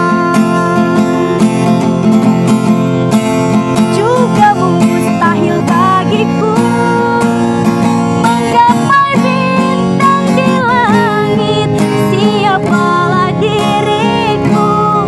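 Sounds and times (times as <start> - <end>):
woman singing: 0.0 - 1.7, 3.8 - 15.0
acoustic guitar: 0.0 - 15.0.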